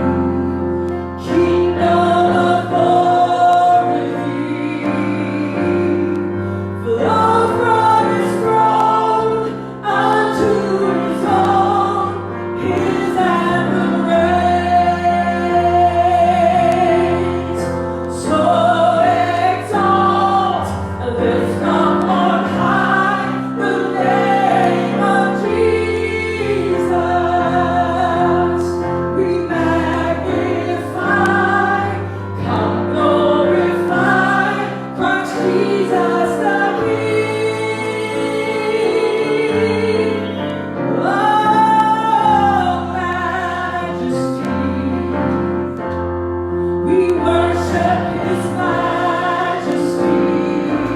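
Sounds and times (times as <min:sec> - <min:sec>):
choir singing: 0:00.0 - 0:45.8, 0:46.8 - 0:50.9
band with bass and keyboard: 0:00.0 - 0:50.9.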